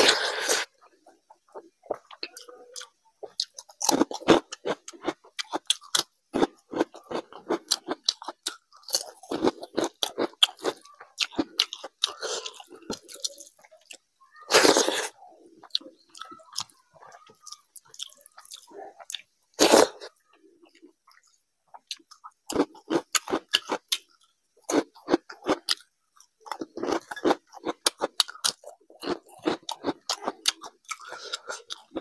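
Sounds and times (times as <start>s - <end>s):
person chewing food: 0.0s - 32.0s
crunching fried papad: 1.4s - 20.9s, 21.8s - 32.0s.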